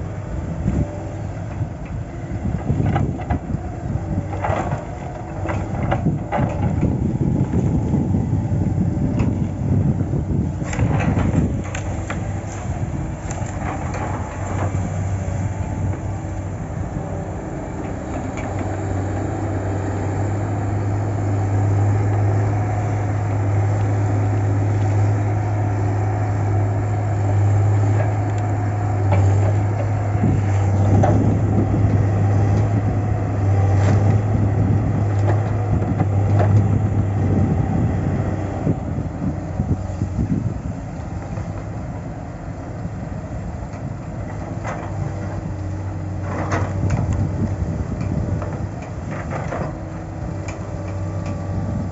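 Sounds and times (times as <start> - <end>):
crane engine running: 0.0 - 51.9.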